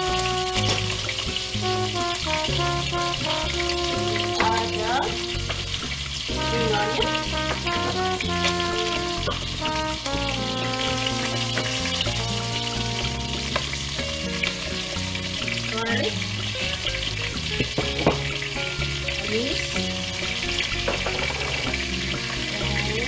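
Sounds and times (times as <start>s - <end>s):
keyboard background music: 0.0s - 23.0s
ribs sizzling in oil: 0.0s - 23.0s.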